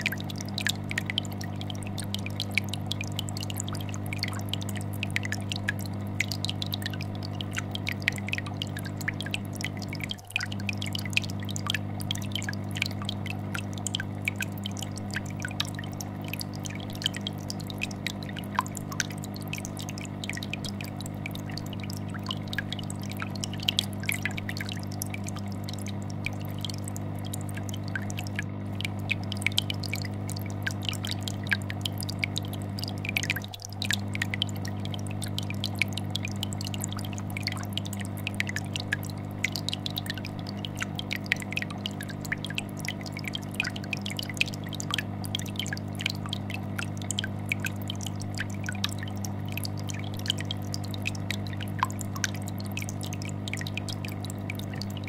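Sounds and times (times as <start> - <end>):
aquarium bubbles popping: 0.0 - 55.0
fish tank filter humming: 0.0 - 55.0.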